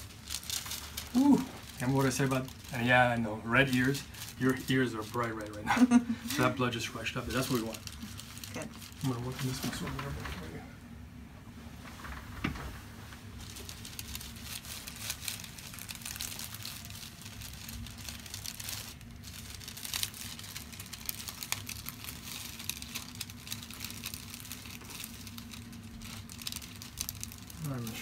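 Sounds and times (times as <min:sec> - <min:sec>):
hands rubbing hair and paper: 0:00.0 - 0:10.5, 0:11.7 - 0:28.0
low steady hum: 0:00.0 - 0:28.0.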